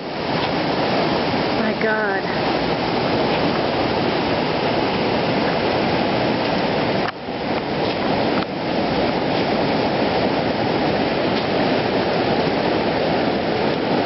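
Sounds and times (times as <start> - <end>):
floodwater rushing over ground: 0.0 - 14.0.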